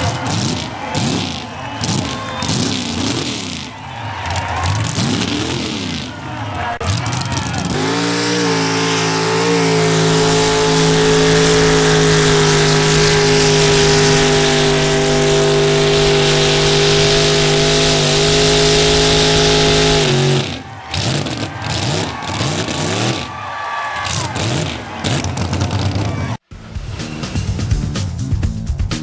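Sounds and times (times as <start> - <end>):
truck engine high-revving: 0.0 - 23.4, 24.0 - 26.4.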